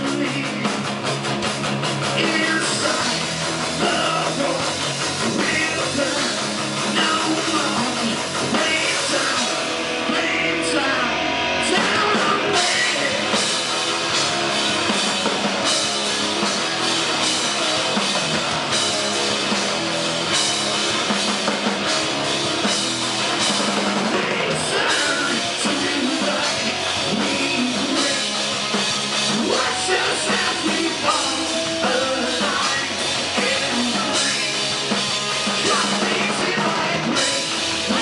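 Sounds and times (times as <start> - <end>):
loud electric guitar: 0.0 - 38.0.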